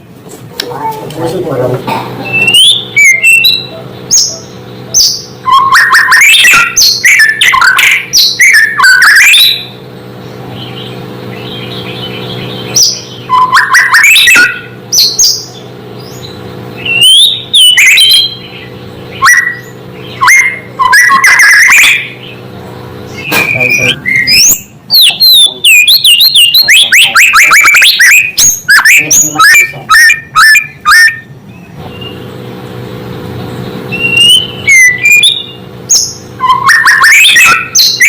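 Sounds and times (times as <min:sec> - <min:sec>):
bird singing whistled phrases: 0:02.2 - 0:09.8, 0:10.6 - 0:22.4, 0:23.1 - 0:32.2, 0:33.9 - 0:38.0.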